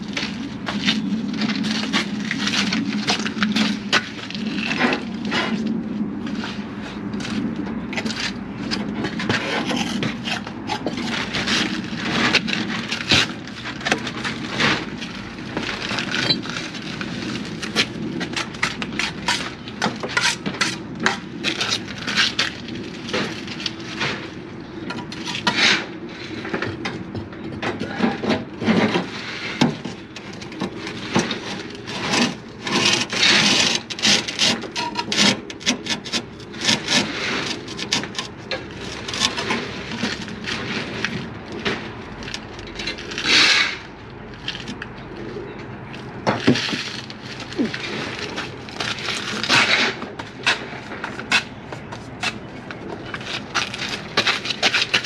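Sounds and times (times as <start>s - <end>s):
hand tool scraping brickwork: 8.0s - 24.3s, 25.0s - 26.5s, 27.8s - 45.5s, 46.2s - 55.0s.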